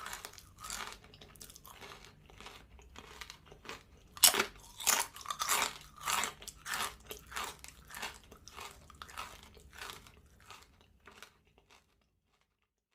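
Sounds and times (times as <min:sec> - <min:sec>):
crunchy snack being chewed: 0:00.0 - 0:12.9.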